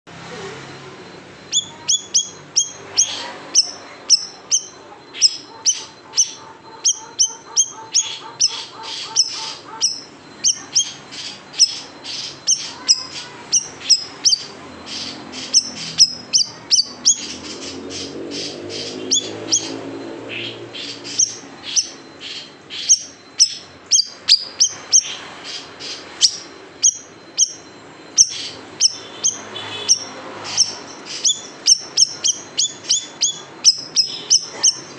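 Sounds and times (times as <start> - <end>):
bird chirping high calls: 1.4 - 34.9.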